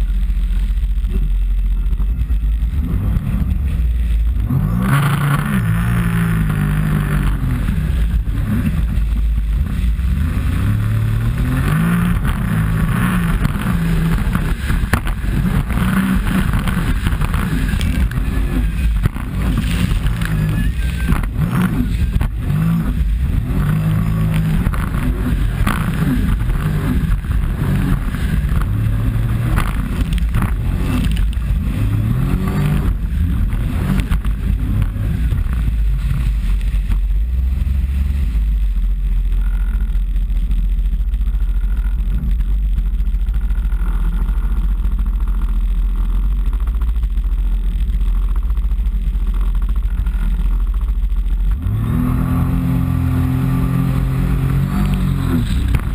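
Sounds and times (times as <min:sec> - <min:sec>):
water splashing against hull: 0:00.0 - 0:55.9
watercraft engine running: 0:00.0 - 0:55.9.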